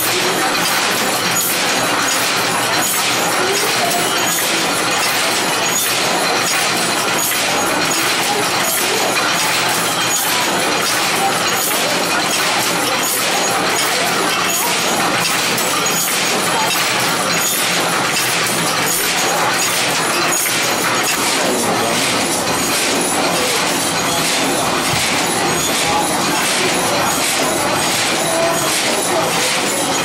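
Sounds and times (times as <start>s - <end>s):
loom rhythmic clatter: 0.0s - 30.0s.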